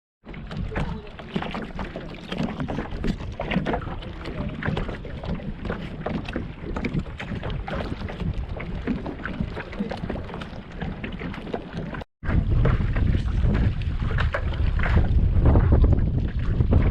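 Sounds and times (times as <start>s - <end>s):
paddle strokes splashing water: 0.2s - 16.9s
wind rumbling on microphone: 0.3s - 16.9s.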